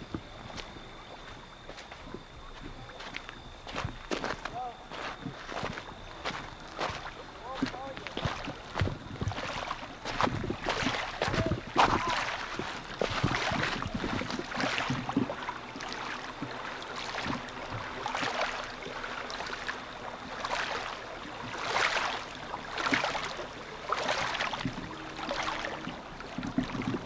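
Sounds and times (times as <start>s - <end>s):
water splashing against rocks: 5.2s - 27.0s.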